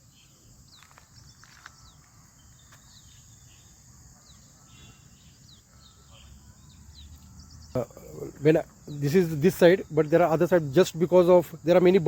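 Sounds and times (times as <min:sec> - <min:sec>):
birds chirping: 0:00.0 - 0:12.0
high-pitched insect drone: 0:00.0 - 0:12.0.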